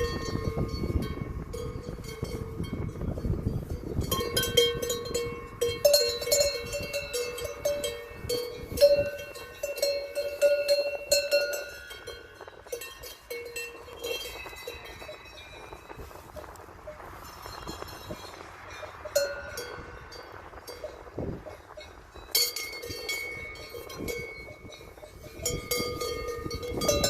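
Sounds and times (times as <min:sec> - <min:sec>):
metal bells clanking: 0:00.0 - 0:27.0.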